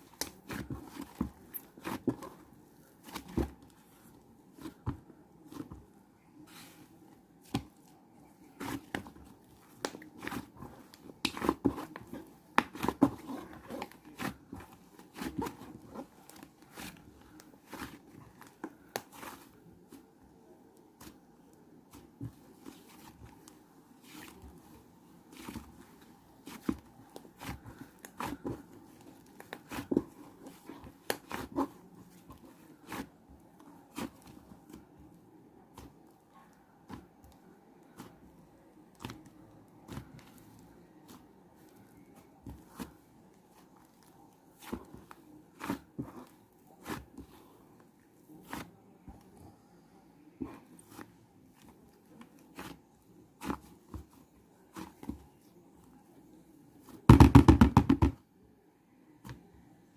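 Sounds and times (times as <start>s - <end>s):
crinkling and rustling: 0.0s - 57.3s.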